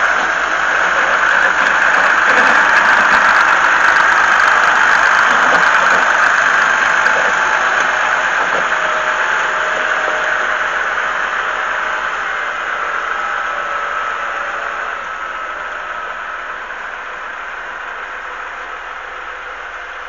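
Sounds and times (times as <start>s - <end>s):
vehicle engine running: 0.0s - 19.8s
continuous rushing noise: 0.0s - 20.0s.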